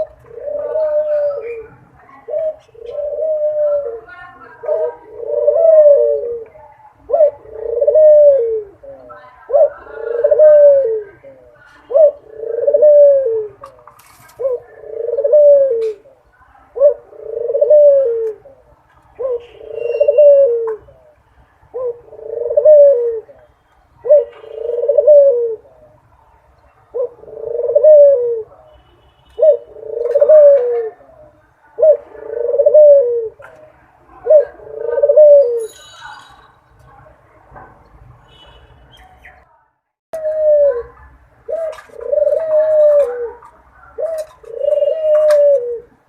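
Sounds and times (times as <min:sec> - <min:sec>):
dove cooing: 0:00.0 - 0:23.4, 0:24.0 - 0:26.0, 0:26.8 - 0:28.7, 0:29.3 - 0:35.6, 0:40.2 - 0:46.0.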